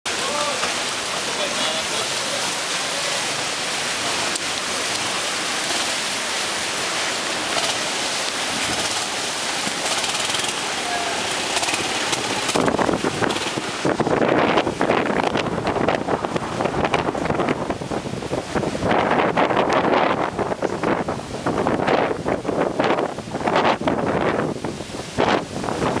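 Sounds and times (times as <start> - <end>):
wind buffeting microphone: 0.7 - 26.0
strong wind rushing: 2.1 - 26.0.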